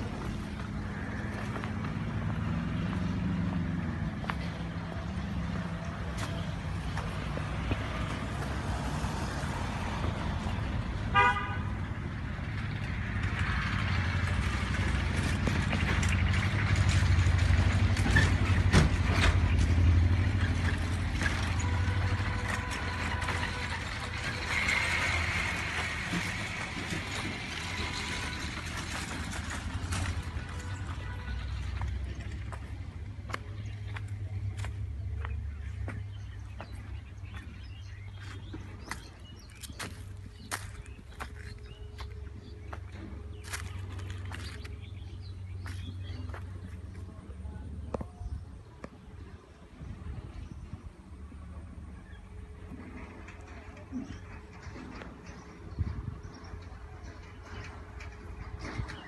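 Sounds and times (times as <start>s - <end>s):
vehicle engines rumbling: 0.0s - 59.0s.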